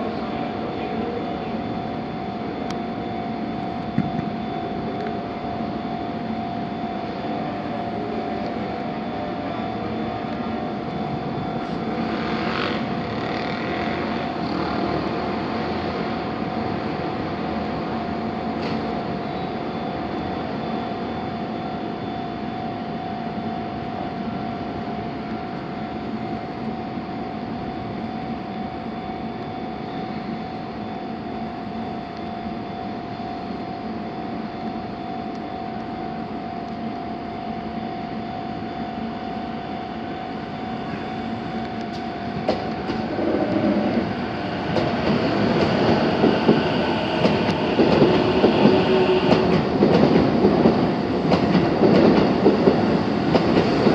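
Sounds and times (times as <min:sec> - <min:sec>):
electric trains humming: 0:00.0 - 0:53.9.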